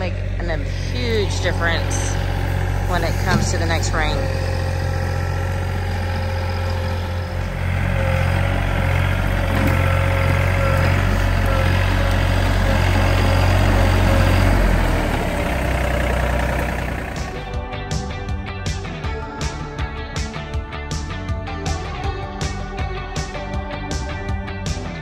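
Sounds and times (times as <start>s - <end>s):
tractor engine running: 0.0s - 20.7s.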